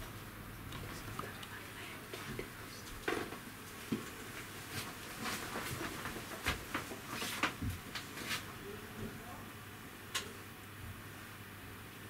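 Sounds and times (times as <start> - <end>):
faint low hum: 0.0 - 5.9, 7.6 - 12.0.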